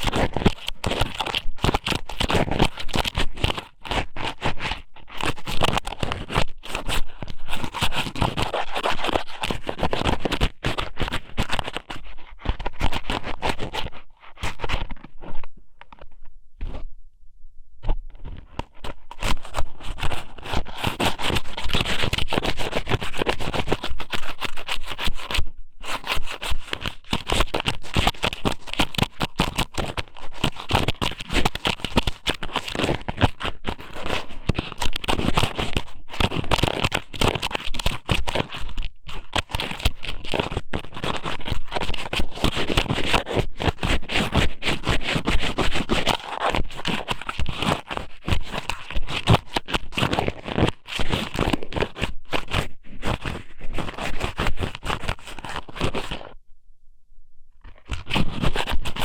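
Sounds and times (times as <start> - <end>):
wet scratching and crackling: 0.0 - 16.8, 18.1 - 56.4, 57.6 - 59.0.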